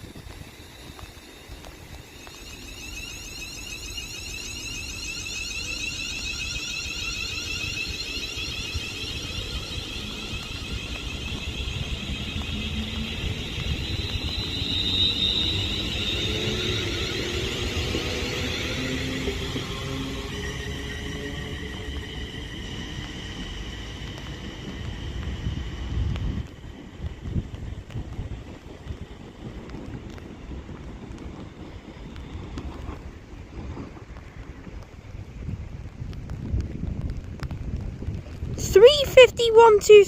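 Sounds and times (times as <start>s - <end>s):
electric train motor whine: 0.0s - 33.4s
low train rumble: 0.0s - 40.0s.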